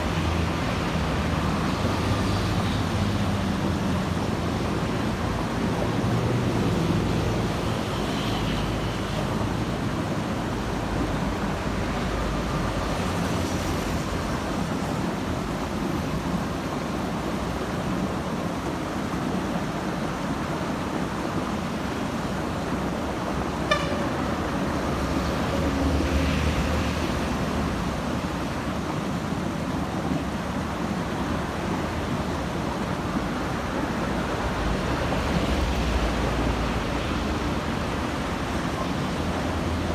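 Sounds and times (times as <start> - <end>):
road traffic: 0.0 - 39.9.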